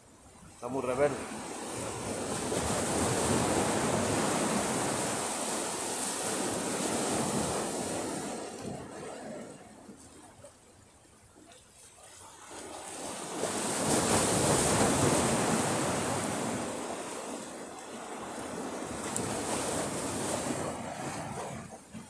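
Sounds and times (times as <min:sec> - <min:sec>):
waves surging against shore: 0:00.4 - 0:22.0.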